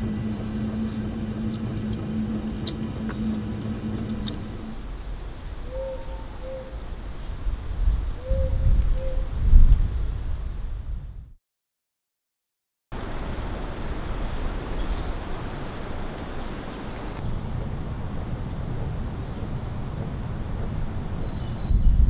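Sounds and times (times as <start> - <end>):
strong wind rushing: 0.0 - 11.4, 13.0 - 22.0
wind rumble on microphone: 0.0 - 11.4, 13.0 - 22.0.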